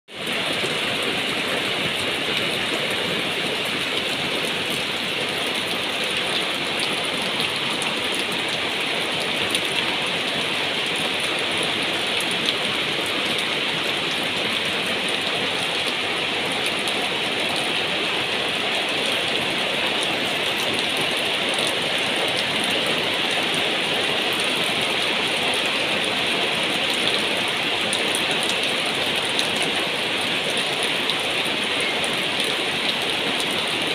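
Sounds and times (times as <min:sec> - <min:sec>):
heavy rain on a roof: 0:00.1 - 0:33.9
rain on plastic bags and leaves: 0:00.1 - 0:33.9.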